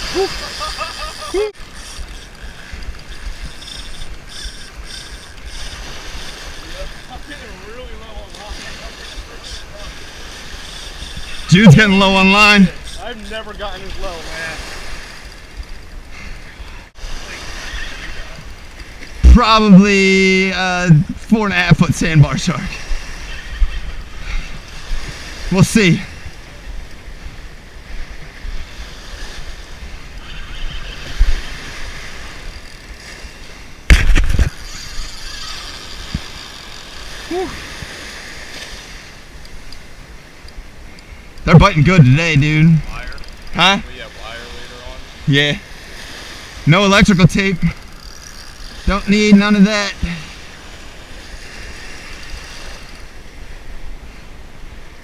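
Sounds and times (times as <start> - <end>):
wind rumbling on microphone: 0.0 - 46.7
waves washing onto beach: 0.0 - 55.0.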